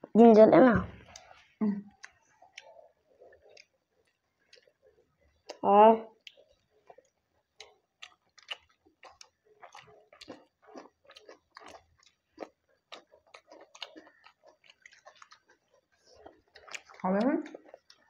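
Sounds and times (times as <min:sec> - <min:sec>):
people chewing and smacking: 0:00.9 - 0:18.0.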